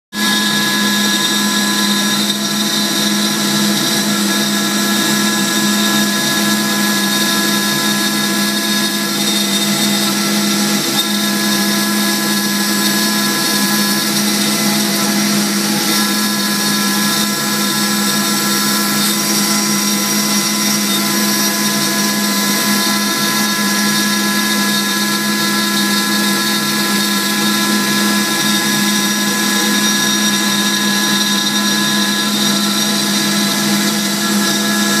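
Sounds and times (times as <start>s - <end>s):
dust hose air rush: 0.1s - 35.0s
router spindle motor whine: 0.1s - 35.0s.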